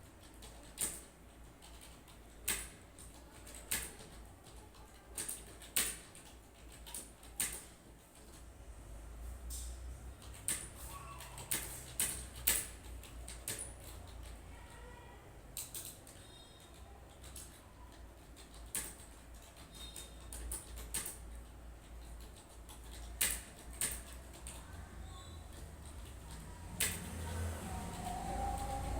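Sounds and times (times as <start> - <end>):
computer keyboard keys clicking: 0.1 - 8.5, 10.1 - 14.9, 15.5 - 28.9.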